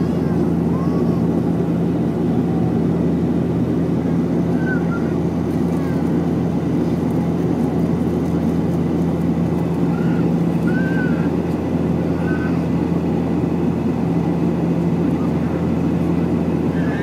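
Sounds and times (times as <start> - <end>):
airliner engine drone in cabin: 0.0 - 17.0.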